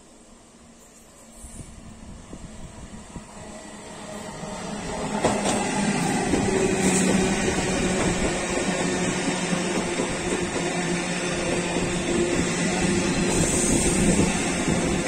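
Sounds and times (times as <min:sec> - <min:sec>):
train wheels rumbling on rail: 0:00.8 - 0:15.0.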